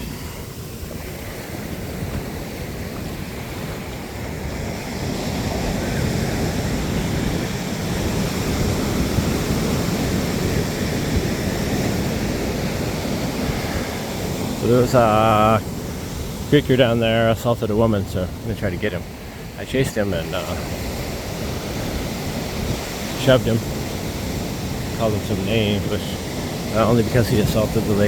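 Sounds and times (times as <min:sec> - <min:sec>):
ocean surf breaking: 0:00.0 - 0:28.0.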